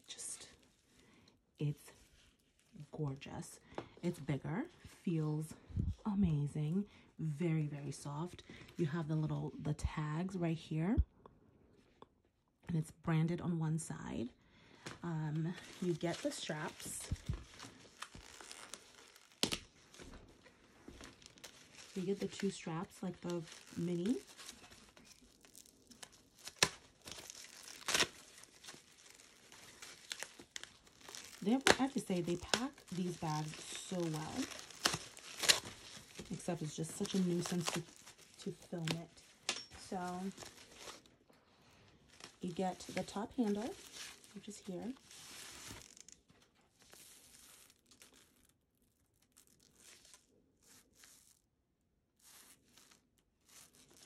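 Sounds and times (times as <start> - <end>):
plastic wrapping rustling and crinkling: 0.0 - 6.9, 14.8 - 54.0.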